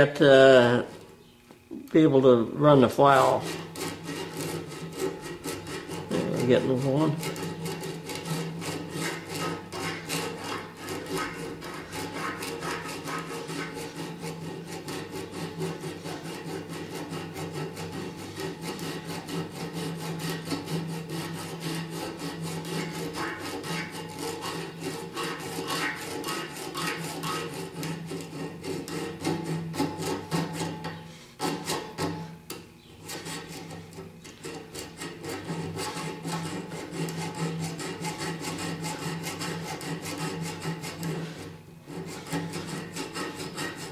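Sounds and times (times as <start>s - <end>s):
file rasping on metal: 3.0s - 43.9s.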